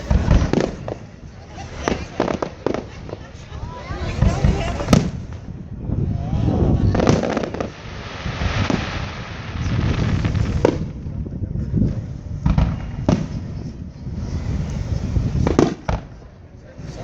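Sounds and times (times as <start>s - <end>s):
firework booms: 0.0s - 17.0s
fireworks crackling: 0.0s - 17.0s.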